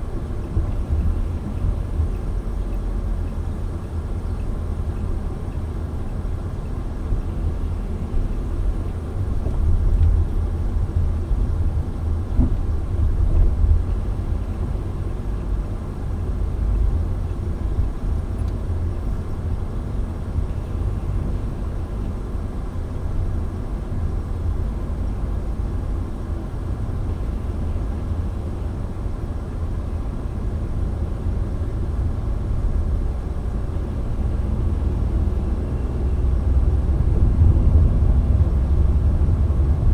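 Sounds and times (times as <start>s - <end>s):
car interior road and engine noise: 0.0s - 39.9s.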